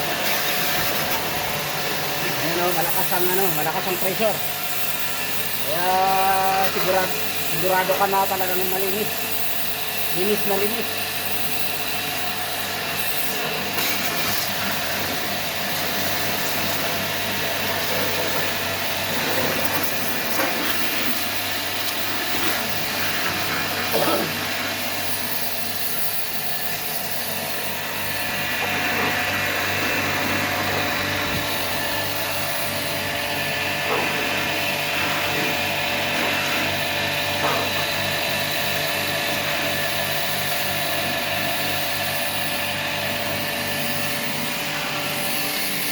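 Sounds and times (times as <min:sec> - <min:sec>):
pressure washer spraying water: 0:00.0 - 0:45.9.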